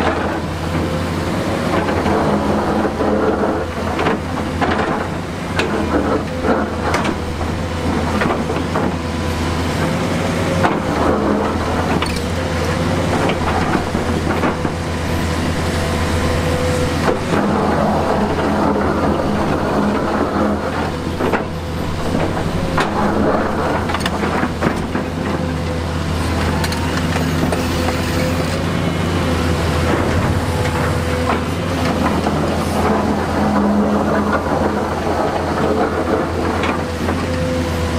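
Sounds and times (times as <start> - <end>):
heavy machinery diesel drone: 0.0 - 37.9.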